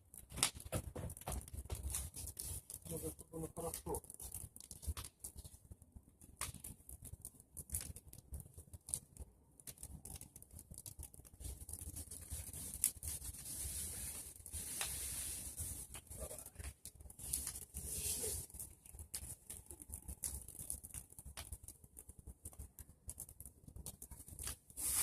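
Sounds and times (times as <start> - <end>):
branches and leaves burning: 0.0 - 25.0.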